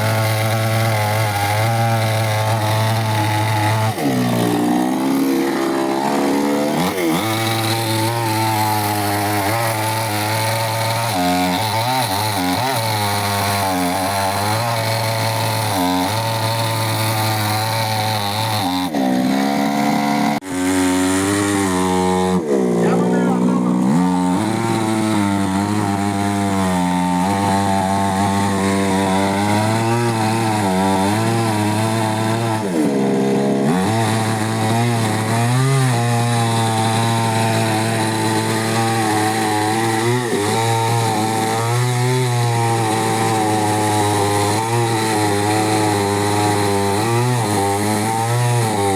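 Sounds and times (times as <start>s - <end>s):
chainsaw cutting into tree: 0.0s - 48.9s.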